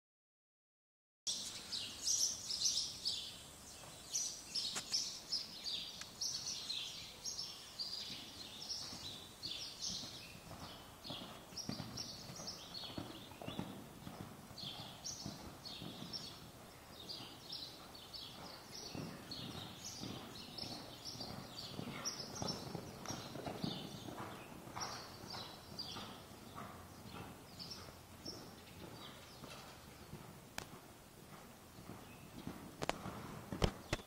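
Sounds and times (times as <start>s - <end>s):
hoofbeats on soft dirt: 2.1s - 34.0s.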